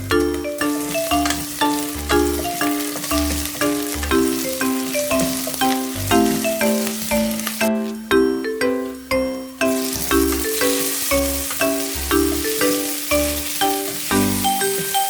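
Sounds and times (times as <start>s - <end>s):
food sizzling in a frying pan: 0.0s - 9.0s, 9.6s - 15.0s
bell-like notes over bass line: 0.0s - 14.9s.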